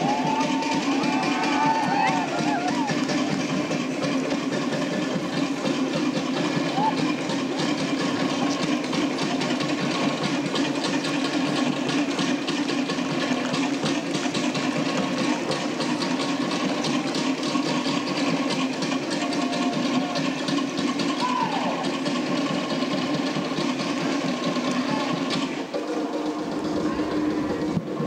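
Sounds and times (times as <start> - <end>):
rapid clattering drums: 0.0 - 28.0.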